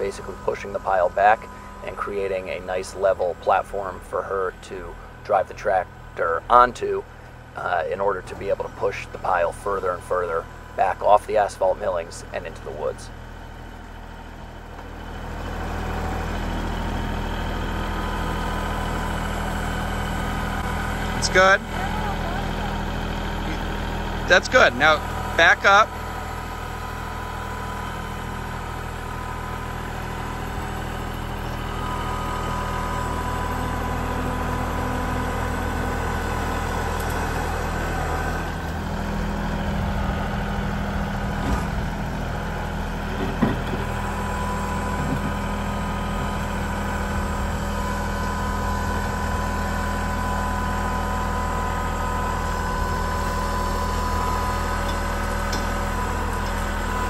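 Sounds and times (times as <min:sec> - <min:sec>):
steady whine: 0:00.0 - 0:13.2, 0:14.6 - 0:57.0
tractor diesel engine running: 0:00.0 - 0:57.0.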